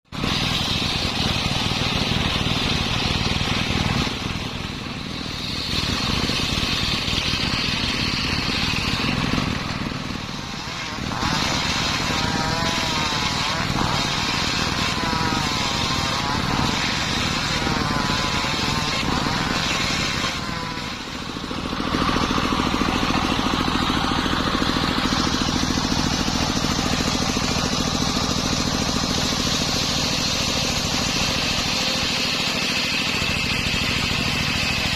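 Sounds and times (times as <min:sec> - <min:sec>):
circular saw cutting wood: 0:00.0 - 0:34.9
saw blade whine: 0:00.0 - 0:34.9.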